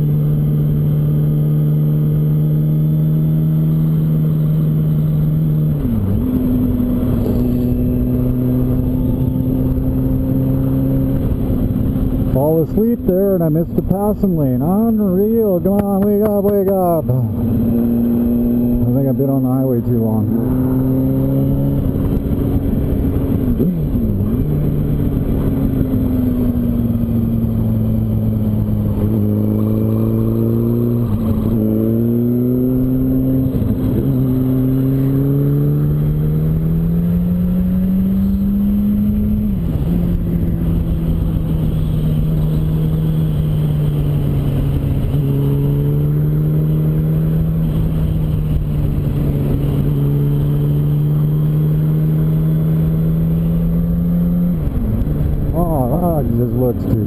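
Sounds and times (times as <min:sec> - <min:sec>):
motorcycle engine running: 0:00.0 - 0:19.1, 0:20.1 - 0:57.0.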